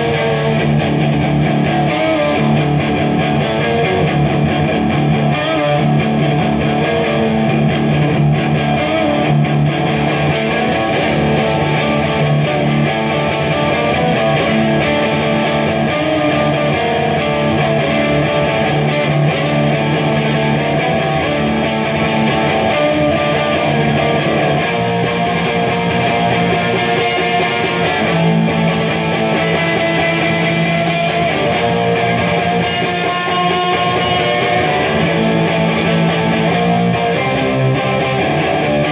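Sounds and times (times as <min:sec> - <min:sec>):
electric guitar through amplifier: 0:00.0 - 0:38.9.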